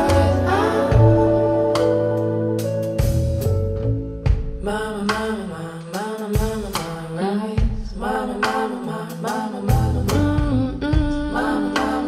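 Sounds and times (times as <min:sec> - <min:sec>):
person singing: 0:00.0 - 0:02.8, 0:04.6 - 0:12.0
blues gospel song over loudspeakers: 0:00.0 - 0:12.0.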